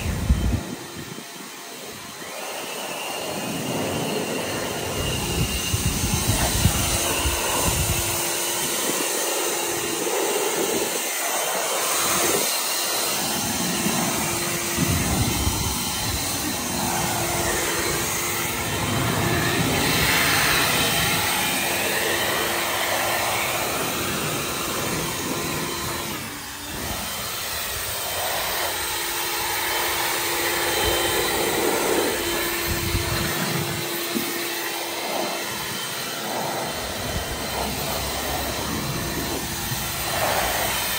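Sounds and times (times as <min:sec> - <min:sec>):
leaf blower rushing air: 0:00.0 - 0:40.9.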